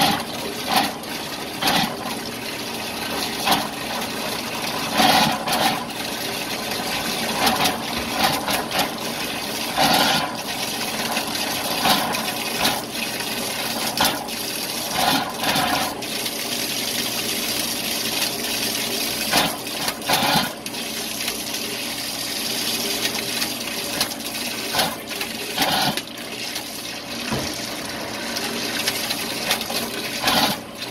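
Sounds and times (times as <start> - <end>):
faucet running into metal sink: 0.0 - 30.9
faucet sputtering: 0.0 - 30.9.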